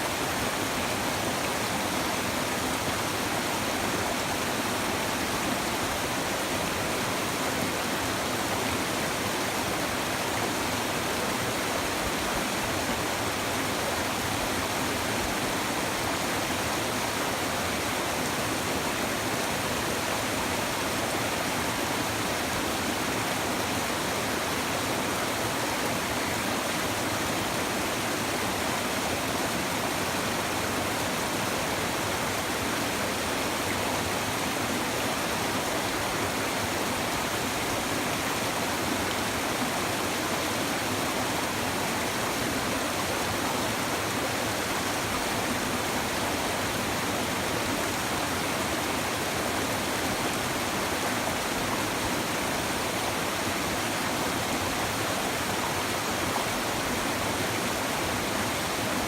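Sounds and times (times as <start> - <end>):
river babbling over stones: 0.0 - 59.0.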